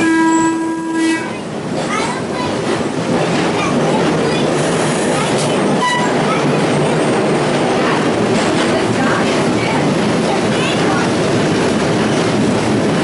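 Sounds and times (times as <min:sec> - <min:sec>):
streetcar rumbling and rattling: 0:00.0 - 0:13.0.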